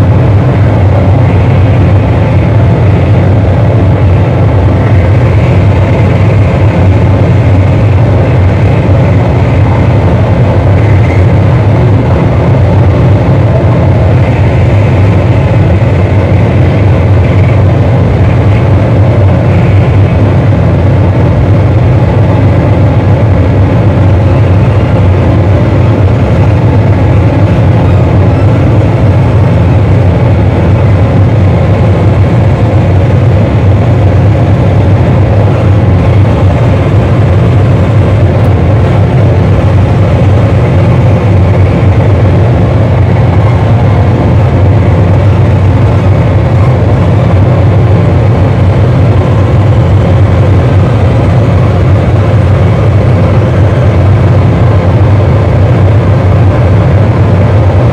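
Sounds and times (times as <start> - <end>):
distorted electronic noise: 0.0 - 57.2.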